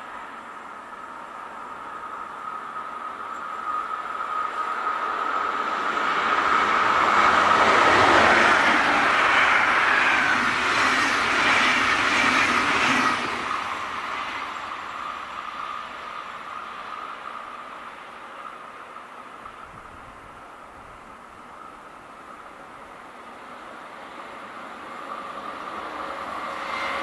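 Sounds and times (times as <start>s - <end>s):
train wheels rattling on rail: 0.0s - 27.0s.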